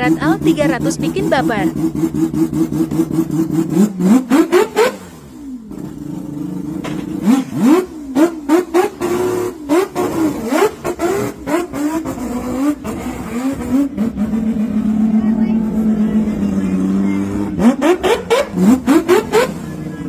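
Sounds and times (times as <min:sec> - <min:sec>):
engine idling: 0:00.0 - 0:20.0
engine revving with throttle blips: 0:00.0 - 0:20.0
exhaust cracks: 0:00.0 - 0:20.0.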